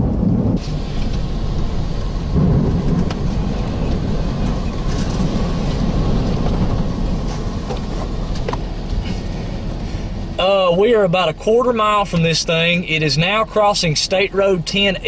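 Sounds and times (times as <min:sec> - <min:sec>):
vehicle rumble in storm: 0:00.0 - 0:15.0.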